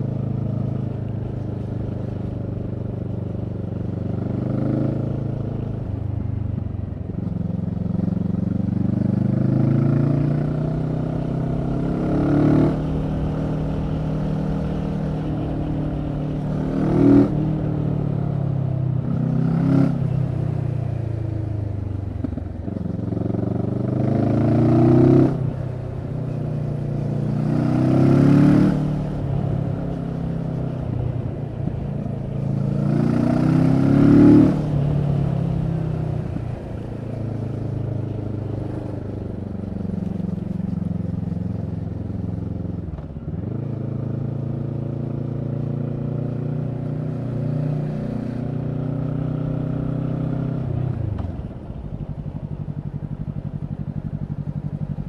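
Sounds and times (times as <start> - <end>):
motorcycle engine revving: 3.8 - 55.0.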